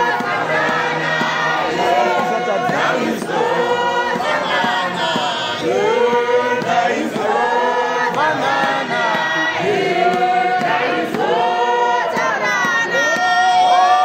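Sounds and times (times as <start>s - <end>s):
congregation singing a hymn: 0.0s - 14.0s.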